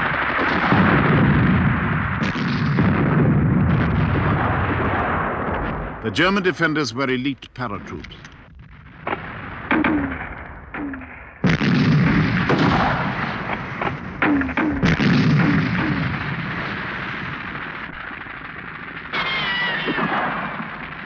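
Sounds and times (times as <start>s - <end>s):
gunshots: 0.0s - 21.0s
loud explosion blast: 0.0s - 21.0s.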